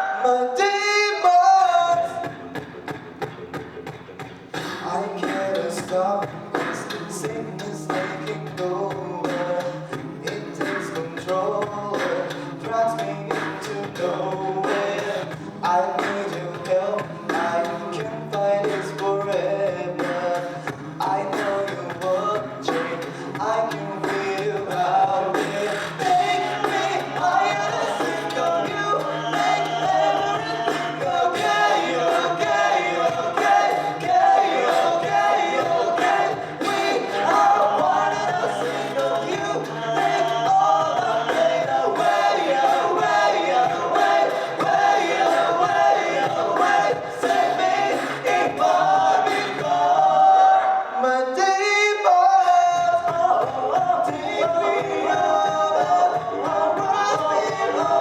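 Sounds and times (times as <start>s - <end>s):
a cappella group singing: 0.0s - 58.0s
vocal percussion clicking: 1.9s - 50.2s.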